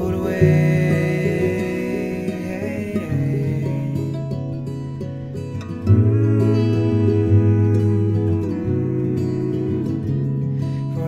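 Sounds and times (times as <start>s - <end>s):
acoustic folk chord ringing: 0.0s - 11.0s.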